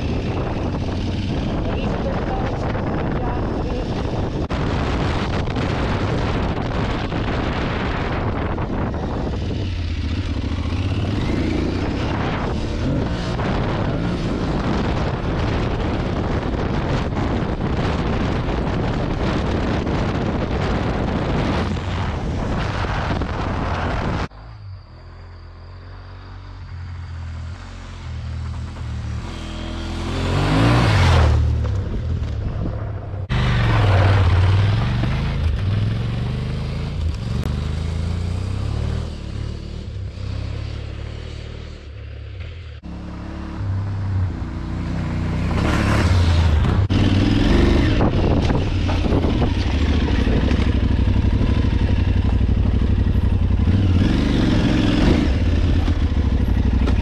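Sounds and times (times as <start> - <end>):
motorcycle engine revving: 0.0 - 24.3, 26.0 - 32.6, 33.2 - 57.0.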